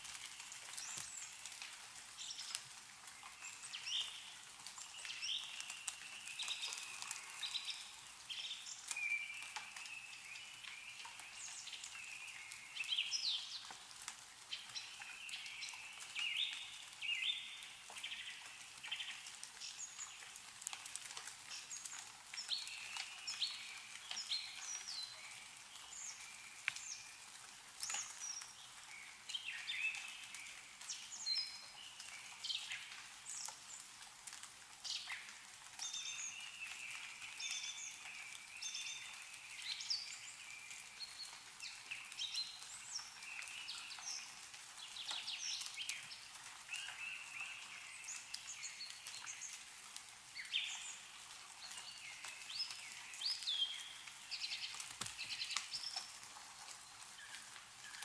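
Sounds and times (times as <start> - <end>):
meltwater dripping: 0.0 - 58.0
small birds chirping: 0.1 - 58.0.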